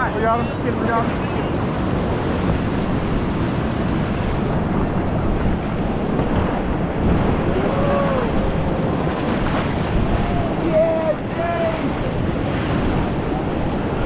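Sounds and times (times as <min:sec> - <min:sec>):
rapids roaring: 0:00.0 - 0:14.0
wind buffeting microphone: 0:00.0 - 0:14.0.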